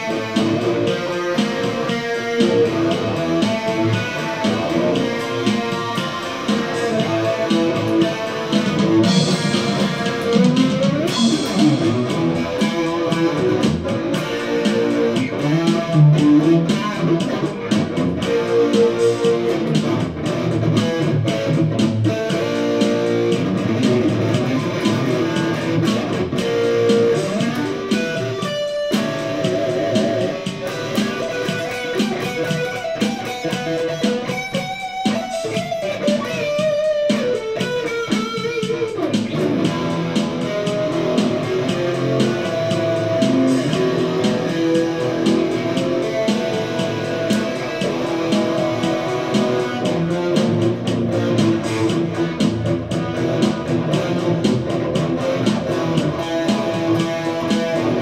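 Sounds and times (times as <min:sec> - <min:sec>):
electric guitar playing: 0:00.0 - 0:58.0.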